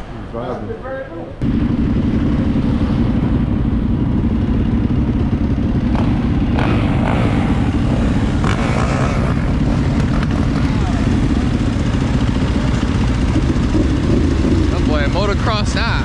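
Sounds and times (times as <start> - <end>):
dirt bike engine running: 1.4 - 16.0.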